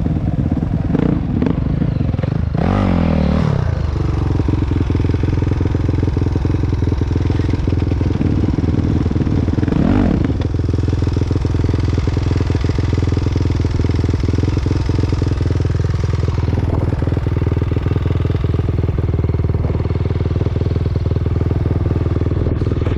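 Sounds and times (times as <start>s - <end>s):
dirt bike engine running: 0.0s - 22.9s.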